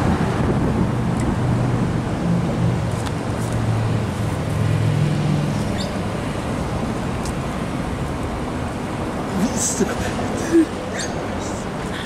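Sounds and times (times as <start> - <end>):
passing vehicle engine hum: 0.0 - 12.0
road traffic noise: 0.0 - 12.0.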